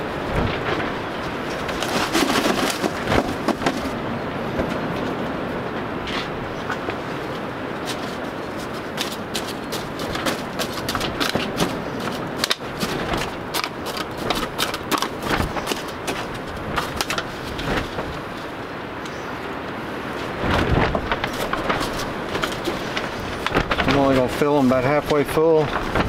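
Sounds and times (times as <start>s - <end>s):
greenhouse clicking and rattling: 0.0s - 5.2s, 6.7s - 19.2s, 20.2s - 26.0s.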